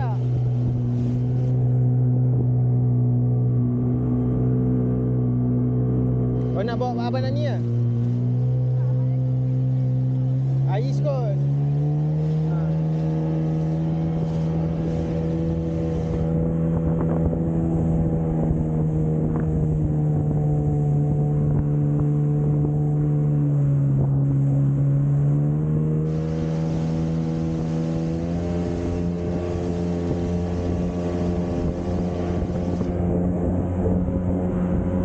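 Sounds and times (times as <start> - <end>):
rushing water and spray: 0.0 - 2.1, 6.4 - 35.0
jet ski engine running: 0.0 - 35.0.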